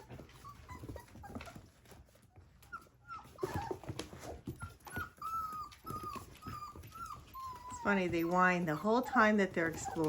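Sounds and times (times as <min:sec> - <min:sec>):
puppies whining: 0:00.0 - 0:10.0.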